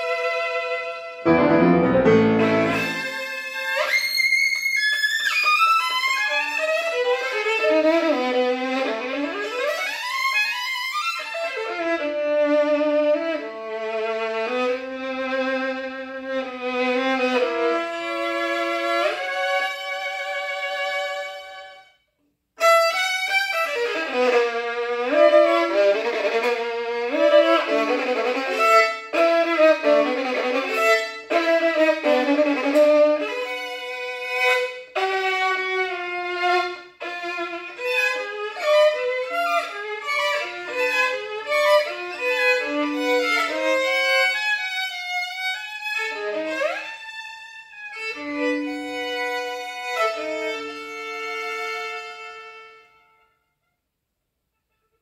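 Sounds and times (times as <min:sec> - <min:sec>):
solo violin: 0:00.0 - 0:53.6.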